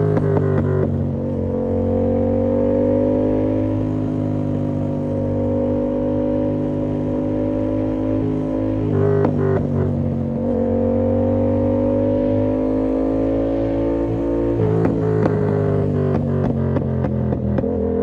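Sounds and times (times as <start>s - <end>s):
motorcycle engine at steady revs: 0.0s - 18.0s.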